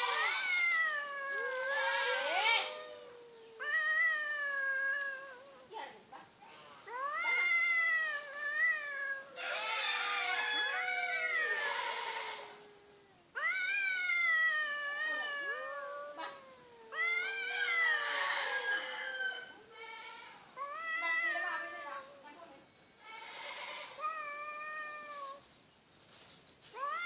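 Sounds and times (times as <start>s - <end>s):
cats yowling: 0.0s - 6.0s, 6.8s - 25.4s, 26.7s - 27.0s.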